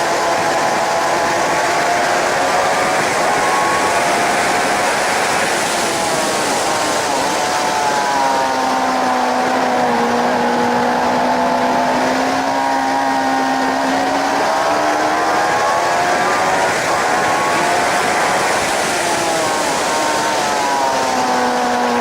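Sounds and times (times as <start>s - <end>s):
motorcycle engine at speed: 0.0s - 22.0s
wind rush on microphone: 0.0s - 22.0s.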